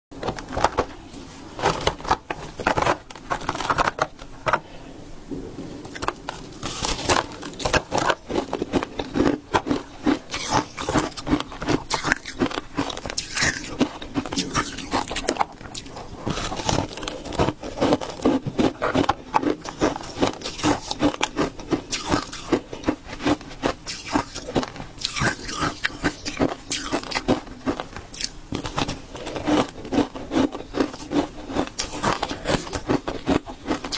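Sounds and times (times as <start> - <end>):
ice being chewed and crunched: 0.3 - 4.7, 5.8 - 33.9.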